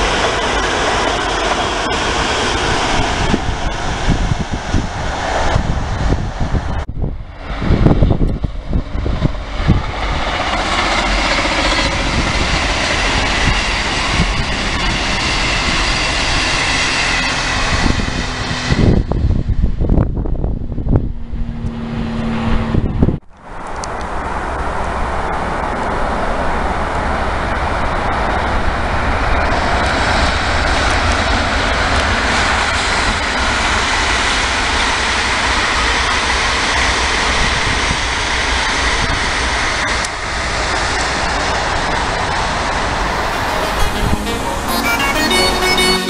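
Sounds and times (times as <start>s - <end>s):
train wheels rushing on rail: 0.0s - 20.3s, 23.5s - 43.6s
low train rumble with hum: 0.0s - 46.0s.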